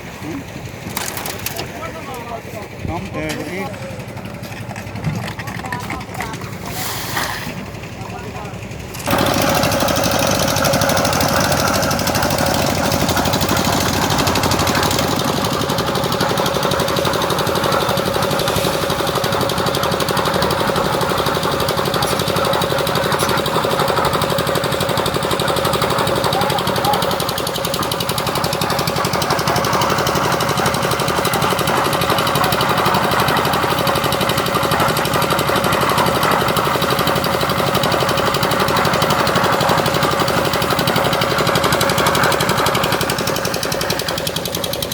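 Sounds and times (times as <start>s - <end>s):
concrete mixer engine running: 0.0s - 44.9s.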